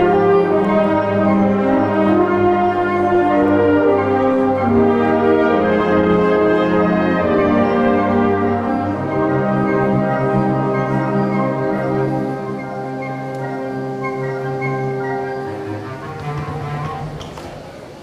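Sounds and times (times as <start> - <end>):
wind band playing brass chords: 0.0 - 18.0.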